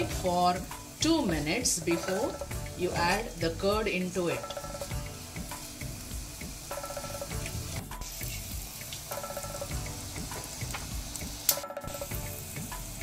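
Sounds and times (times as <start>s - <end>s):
light background music: 0.0s - 13.0s
spices sizzling in oil: 0.0s - 13.0s.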